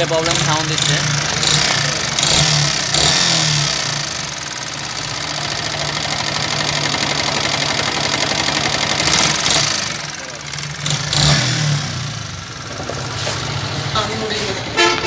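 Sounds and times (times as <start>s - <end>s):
motorcycle engine harsh mechanical noise: 0.0s - 15.0s.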